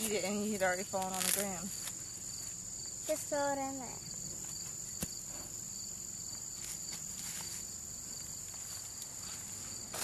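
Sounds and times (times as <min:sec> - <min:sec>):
insects buzzing high-pitched: 0:00.0 - 0:10.0
soft pulsing insect trill: 0:00.0 - 0:10.0.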